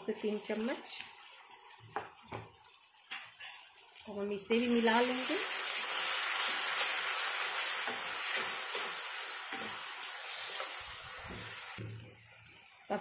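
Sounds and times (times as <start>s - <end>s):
masala sizzling in hot oil: 0.0s - 13.0s.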